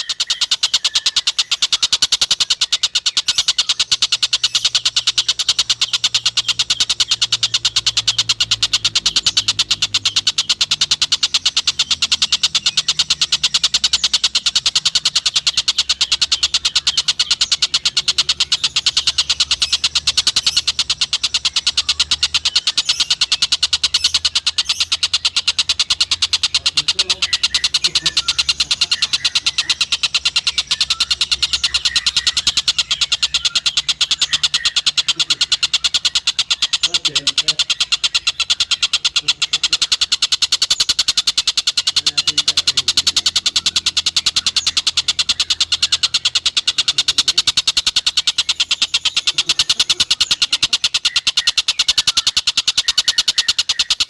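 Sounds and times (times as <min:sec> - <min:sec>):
kingfisher chattering: 0:00.0 - 0:54.0.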